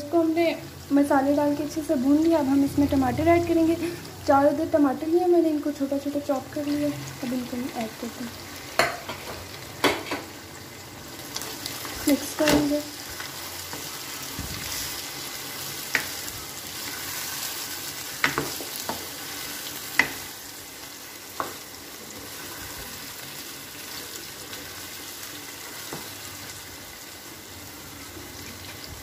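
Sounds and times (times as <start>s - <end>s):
meat and tomatoes sizzling: 0.0s - 29.0s.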